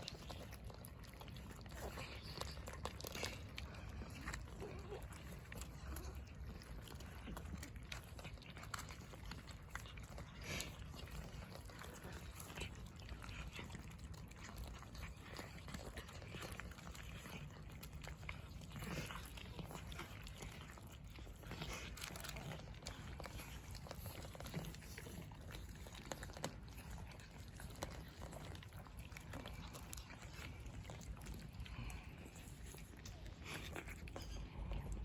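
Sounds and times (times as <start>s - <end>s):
cats chewing crunches: 0.0s - 35.0s.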